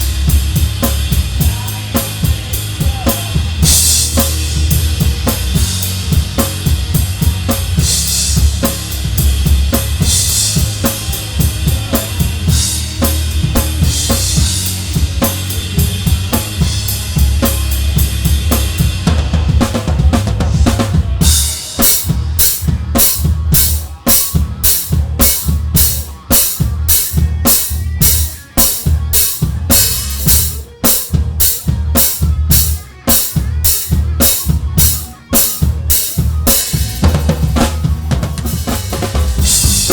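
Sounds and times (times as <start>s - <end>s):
live band playing: 0.0s - 39.9s.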